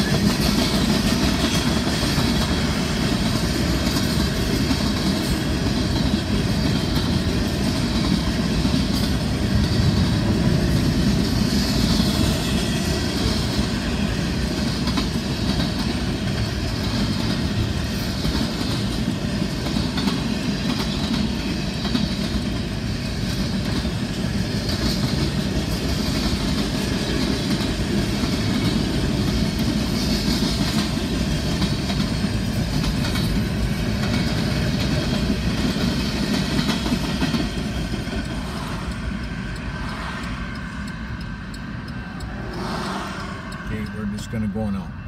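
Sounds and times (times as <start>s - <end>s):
train wheels rolling on rails: 0.0s - 45.0s.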